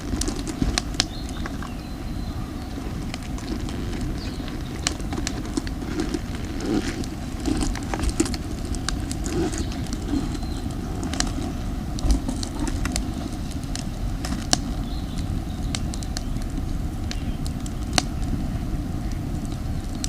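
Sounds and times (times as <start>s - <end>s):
campfire crackling and popping: 0.0s - 20.0s
steady low rumble: 0.0s - 20.0s.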